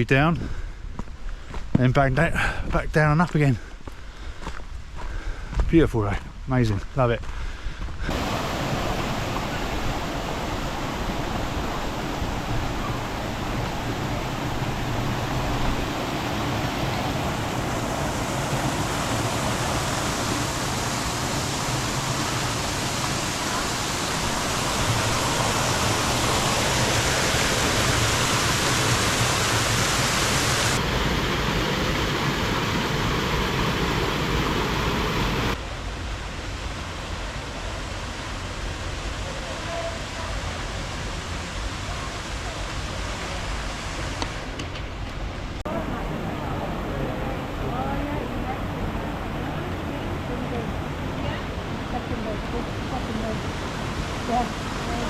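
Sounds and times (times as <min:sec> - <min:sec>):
waterfall rushing: 0:08.0 - 0:44.6, 0:45.2 - 0:55.0.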